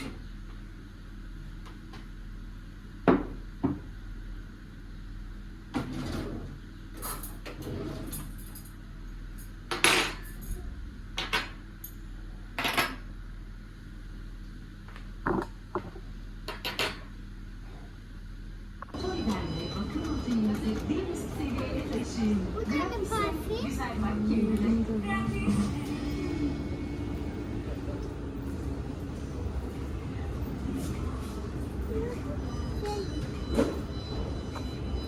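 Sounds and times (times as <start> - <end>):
low steady hum: 6.7 - 35.0.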